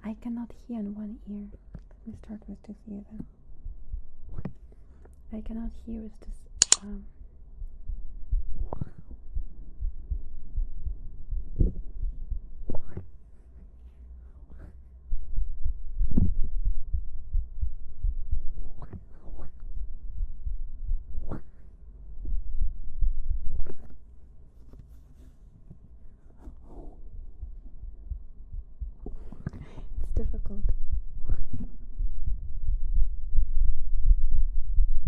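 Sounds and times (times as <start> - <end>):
faint low rumble: 0.0 - 35.0
heartbeat through stethoscope: 3.2 - 5.8, 7.1 - 35.0.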